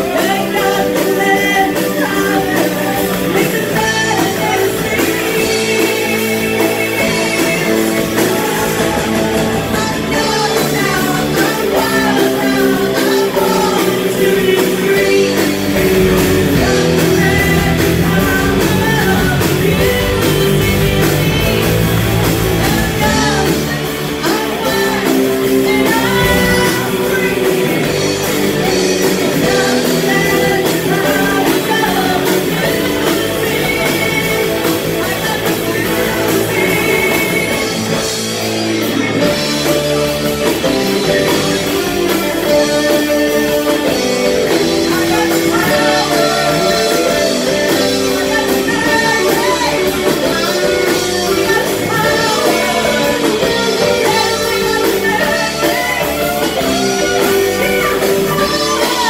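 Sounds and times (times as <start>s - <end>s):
woman singing: 0.0s - 38.1s, 40.4s - 59.0s
live rock band playing: 0.0s - 59.0s.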